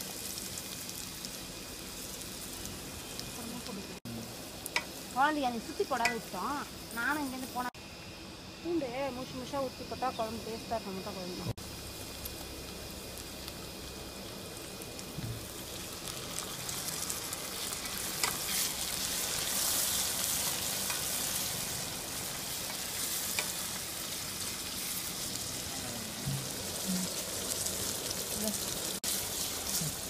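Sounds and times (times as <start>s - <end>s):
vegetables sizzling in hot oil: 0.0s - 30.0s.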